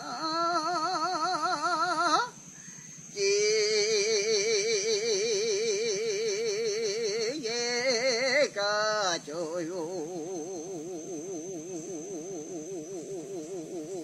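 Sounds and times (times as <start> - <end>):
man singing solo with vibrato: 0.0 - 14.0.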